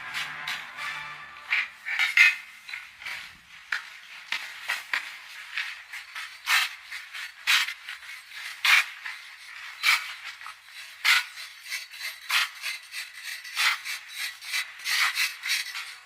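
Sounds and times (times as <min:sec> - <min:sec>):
hand tool scraping: 0:00.0 - 0:16.0.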